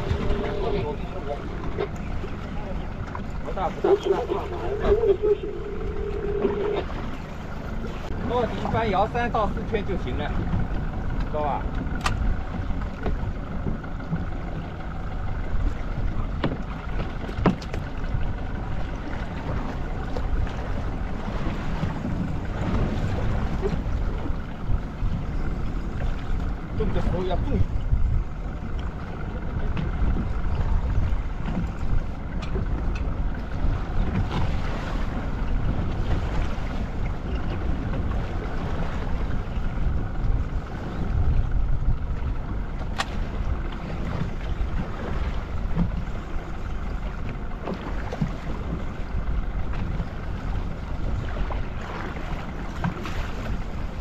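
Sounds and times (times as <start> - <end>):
choppy water around boat: 0.0 - 54.0
wind buffeting microphone: 0.0 - 54.0.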